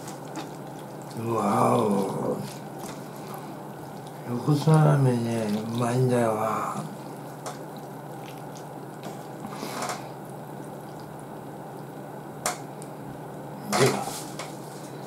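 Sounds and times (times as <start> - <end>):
faint wet dripping: 0.1 - 13.4.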